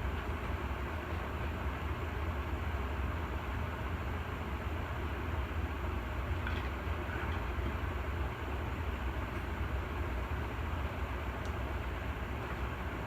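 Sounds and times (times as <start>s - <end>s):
ceiling fan air rumble and hiss: 0.0s - 13.0s.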